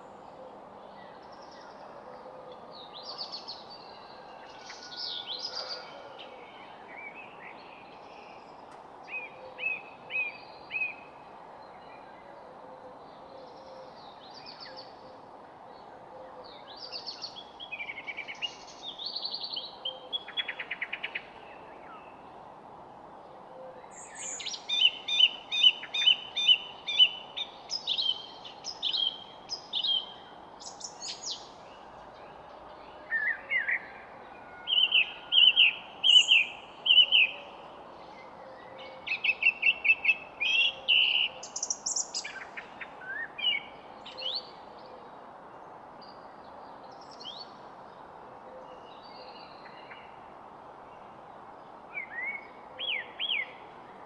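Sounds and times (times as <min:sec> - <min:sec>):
songbirds singing: 0:00.0 - 0:54.0
steady background hiss: 0:00.0 - 0:54.0.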